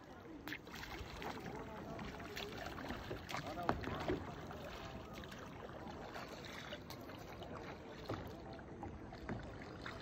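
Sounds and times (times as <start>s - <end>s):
water lapping and trickling: 0.0s - 10.0s.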